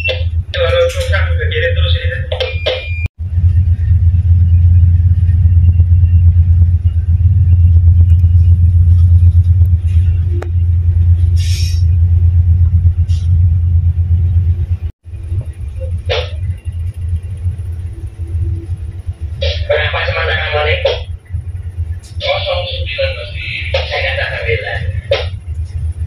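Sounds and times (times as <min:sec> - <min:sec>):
diesel engines low rumble: 0:00.0 - 0:26.0.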